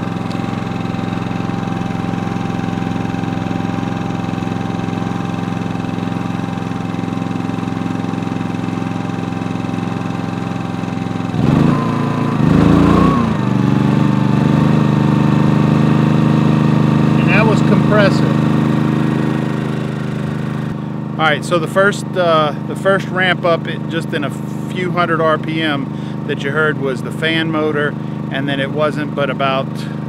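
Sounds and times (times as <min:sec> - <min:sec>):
generator engine running: 0:00.0 - 0:30.0.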